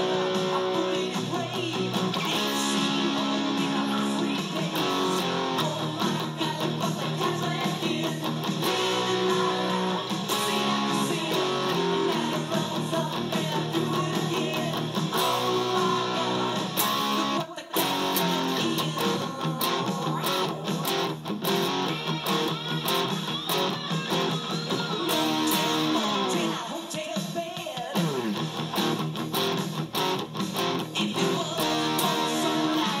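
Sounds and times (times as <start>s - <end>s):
electric guitar playing rock: 0.0s - 27.3s, 27.9s - 33.0s.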